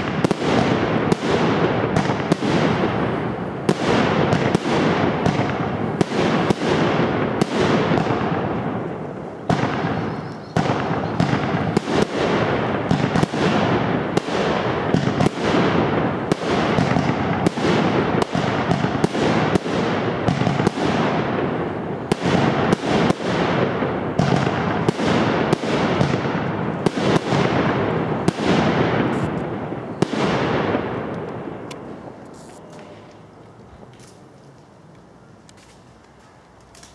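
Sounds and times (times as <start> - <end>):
fireworks bursting: 0.0 - 36.9.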